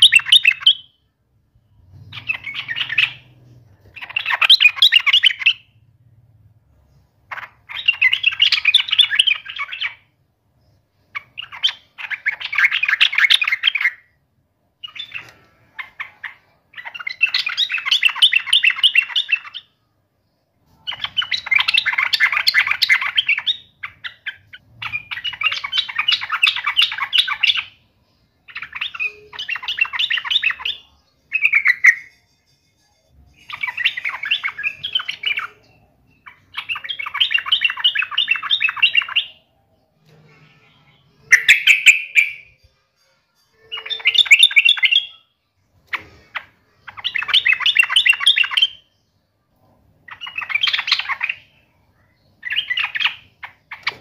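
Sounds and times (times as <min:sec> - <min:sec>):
bird chattering song: 0:00.0 - 0:06.0, 0:06.9 - 0:10.1, 0:11.0 - 0:14.2, 0:14.8 - 0:32.4, 0:33.3 - 0:39.6, 0:41.0 - 0:42.7, 0:43.6 - 0:49.2, 0:50.0 - 0:54.0.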